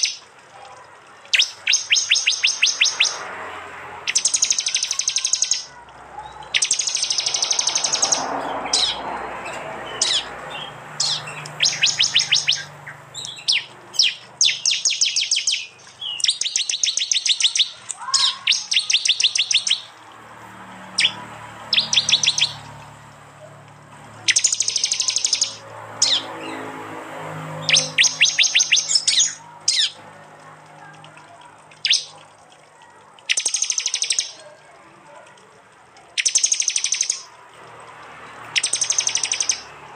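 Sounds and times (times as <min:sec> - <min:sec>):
songbirds chattering: 0:00.0 - 0:20.0, 0:20.8 - 0:23.0, 0:24.1 - 0:39.8.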